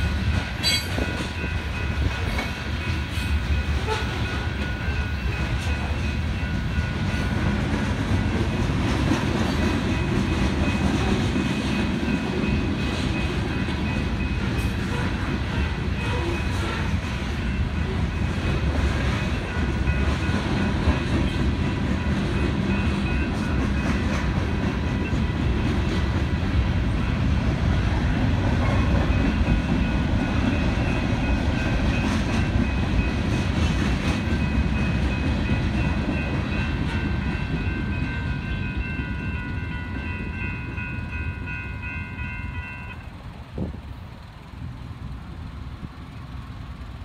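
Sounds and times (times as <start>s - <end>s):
crossing warning bells ringing: 0.0s - 47.0s
freight train rumble and wheel clatter: 0.0s - 47.0s.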